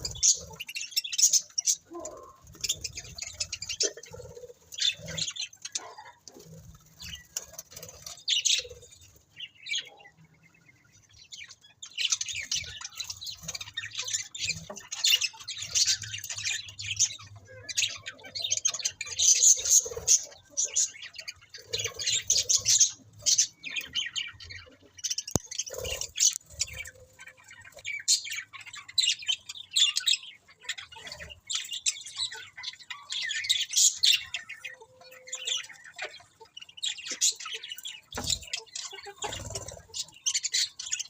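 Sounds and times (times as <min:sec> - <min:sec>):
budgies chirping and chattering: 0:00.0 - 0:41.0.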